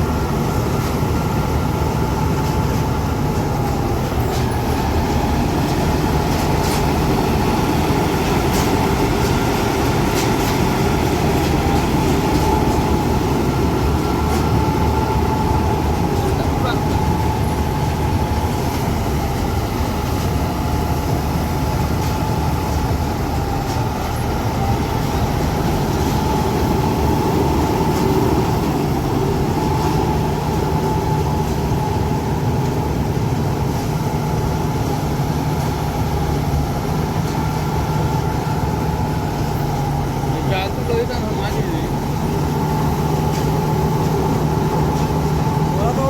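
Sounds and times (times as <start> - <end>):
combine harvester engine drone: 0.0 - 46.0
high machinery whine: 0.0 - 46.0.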